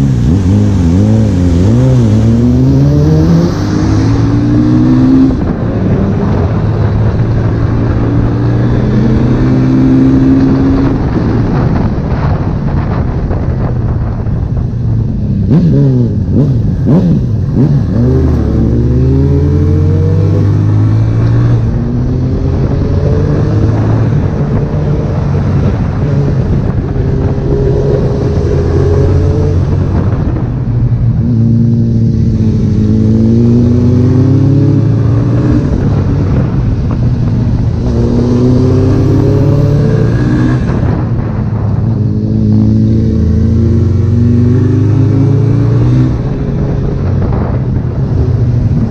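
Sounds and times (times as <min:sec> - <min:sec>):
motorcycle engine accelerating: 0:00.0 - 0:48.9
wind noise: 0:00.0 - 0:48.9.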